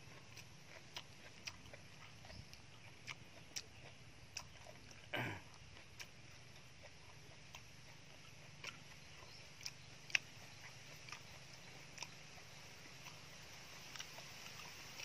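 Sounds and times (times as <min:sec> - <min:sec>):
person chewing and lip smacking: 0:00.0 - 0:15.0.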